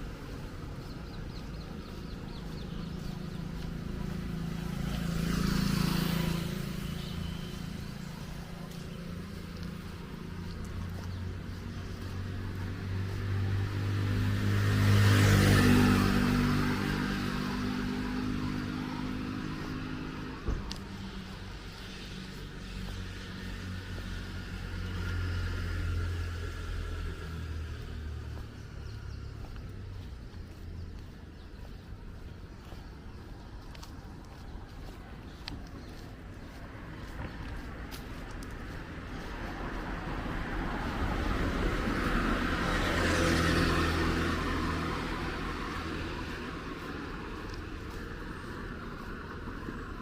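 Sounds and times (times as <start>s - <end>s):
vehicle engine rumble: 0.0s - 50.0s.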